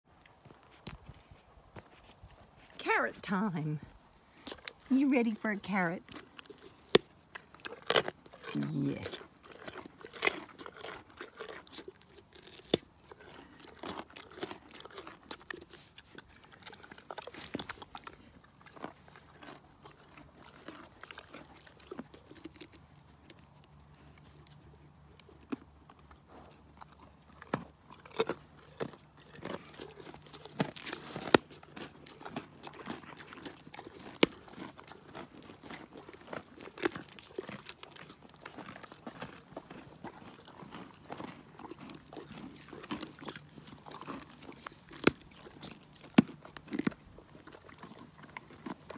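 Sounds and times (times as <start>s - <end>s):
ponies chewing carrots: 0.1s - 48.9s.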